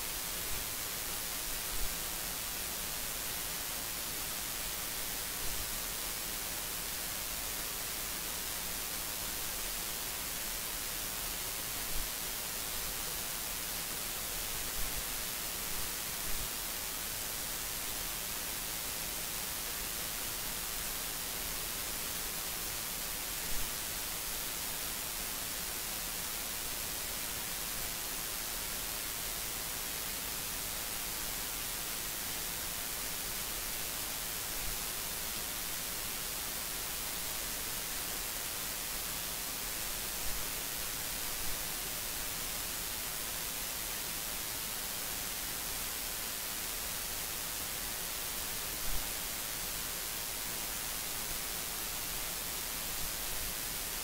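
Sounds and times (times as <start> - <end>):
steady electronic hiss: 0.0 - 54.0.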